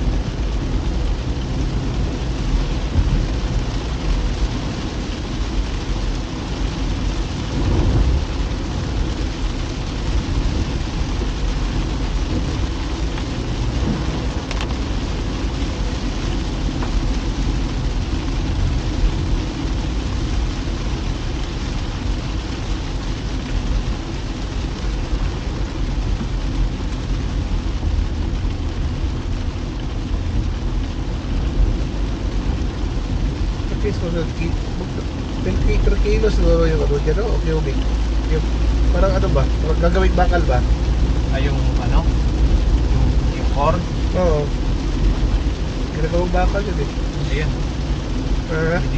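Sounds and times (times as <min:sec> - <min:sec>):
deep constant rumble: 0:00.0 - 0:48.9
rain hissing: 0:00.0 - 0:48.9
wet road noise: 0:00.0 - 0:48.9.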